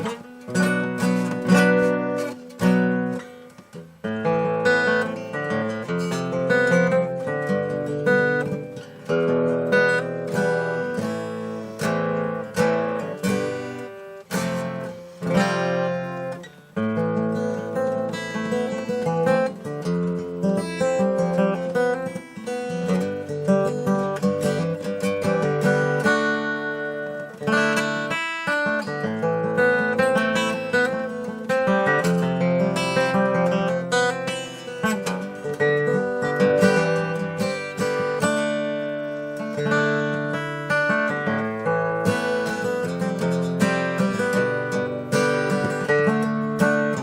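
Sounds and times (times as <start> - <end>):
acoustic guitar strummed in chords: 0.0 - 47.0.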